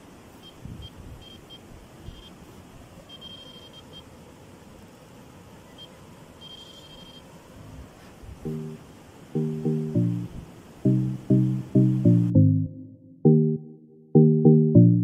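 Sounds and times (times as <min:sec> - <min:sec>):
faint steady background hiss: 0:00.0 - 0:15.0.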